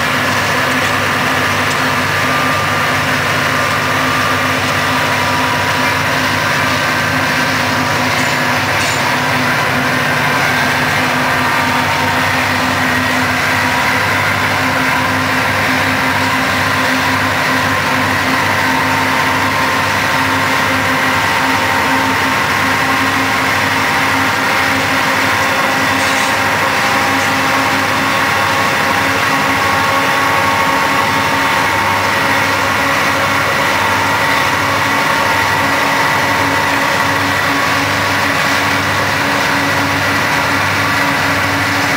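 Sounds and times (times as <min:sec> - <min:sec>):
locomotive engine drone: 0:00.0 - 0:41.9.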